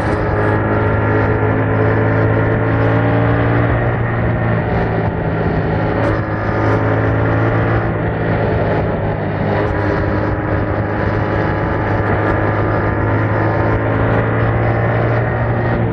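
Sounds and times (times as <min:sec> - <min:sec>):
motorcycle engine droning: 0:00.0 - 0:15.9.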